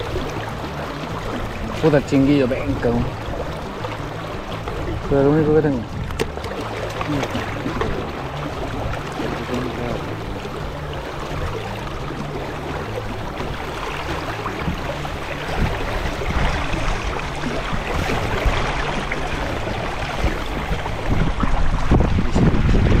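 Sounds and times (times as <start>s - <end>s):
river current rushing: 0.0s - 23.0s
wind buffeting microphone: 0.0s - 23.0s.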